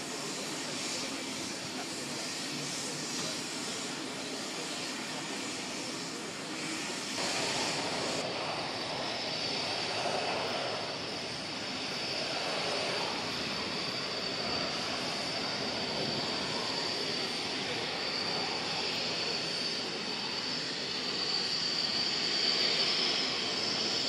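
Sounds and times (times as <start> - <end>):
high turbine whine: 0.0 - 24.0
jet engine roar: 0.0 - 24.0.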